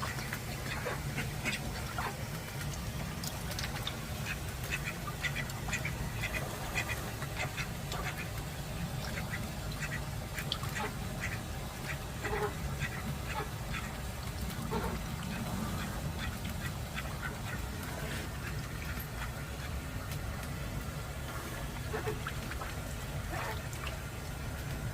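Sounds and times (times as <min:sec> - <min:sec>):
ducks quacking: 0:00.0 - 0:02.3, 0:03.6 - 0:20.2, 0:21.2 - 0:23.9
steady low rumble: 0:00.0 - 0:24.9.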